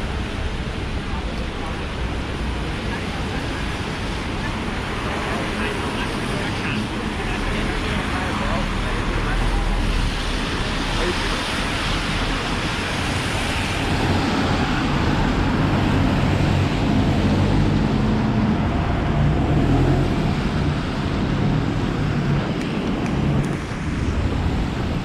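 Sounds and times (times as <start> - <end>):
heavy rain: 0.0 - 25.0
traffic on wet street: 0.0 - 25.0
vehicle engine hum: 0.0 - 25.0.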